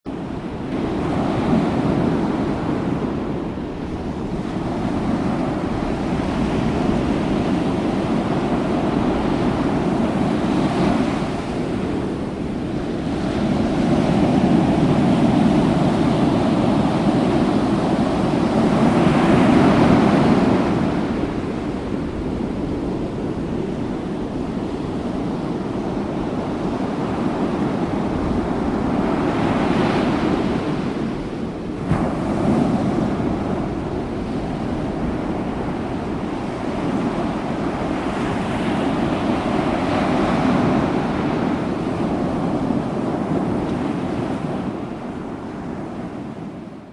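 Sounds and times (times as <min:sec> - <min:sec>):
ocean waves surf: 0:00.1 - 0:46.9.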